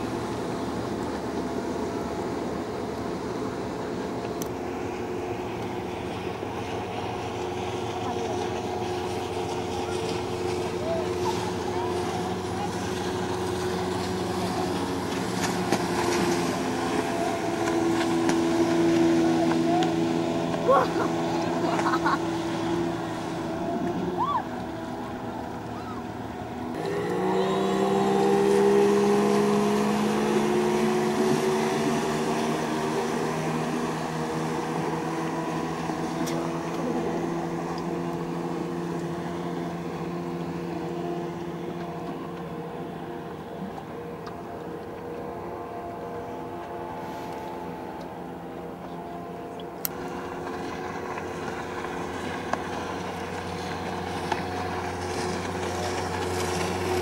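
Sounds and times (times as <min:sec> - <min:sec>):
motorboat engine running: 0:00.0 - 0:57.0
water wash: 0:00.0 - 0:57.0.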